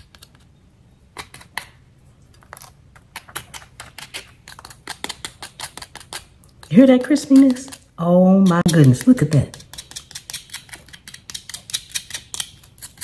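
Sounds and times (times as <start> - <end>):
knife crunching crispy chicken skin: 2.4 - 13.0.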